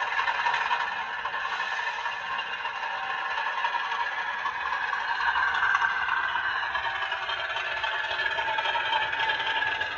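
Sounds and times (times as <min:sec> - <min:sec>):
model train wheels clattering on rail: 0:00.0 - 0:09.9.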